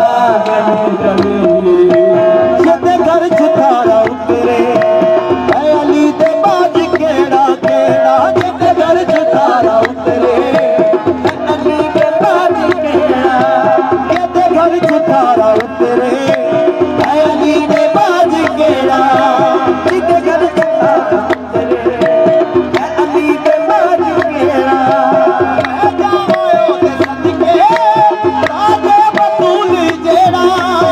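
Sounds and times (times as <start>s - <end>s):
backing voices: 0.0s - 30.9s
hand drum percussion: 0.0s - 30.9s
harmoniums holding notes: 0.0s - 30.9s
man singing: 0.0s - 30.9s.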